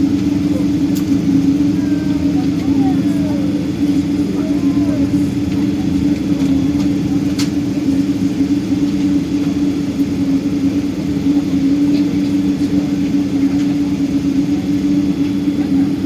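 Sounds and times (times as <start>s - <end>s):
jet engines hum in cabin: 0.0s - 16.0s.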